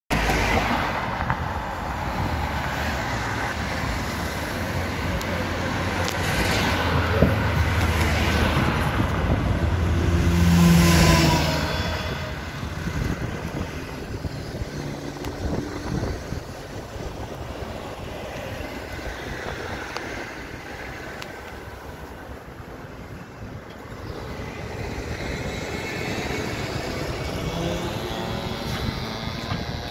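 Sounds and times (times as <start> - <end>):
cars passing on tarmac: 0.1 - 29.9.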